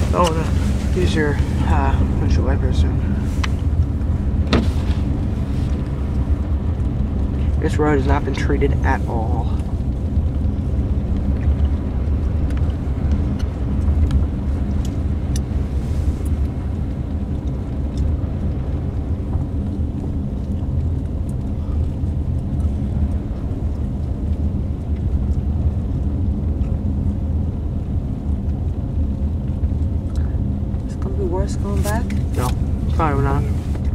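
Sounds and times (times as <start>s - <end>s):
car driving on snowy road: 0.0s - 33.9s.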